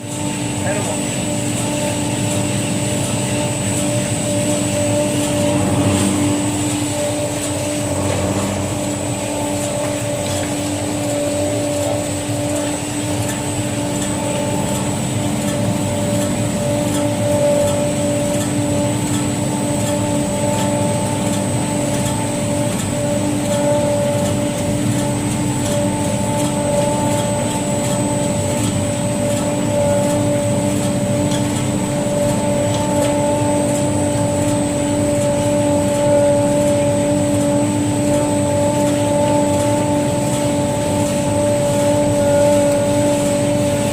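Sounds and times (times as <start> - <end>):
high machine whine: 0.0 - 43.9
machine motor hum: 0.0 - 43.9.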